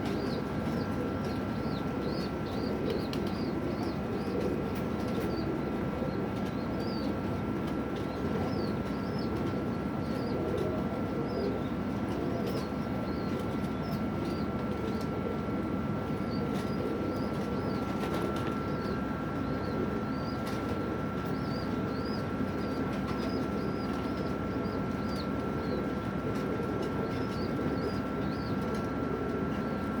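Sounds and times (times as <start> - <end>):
small birds chirping: 0.0 - 7.2, 8.0 - 15.4, 16.1 - 26.1, 27.0 - 28.8
pigeons cooing: 0.0 - 30.0
steady high whine: 0.0 - 30.0.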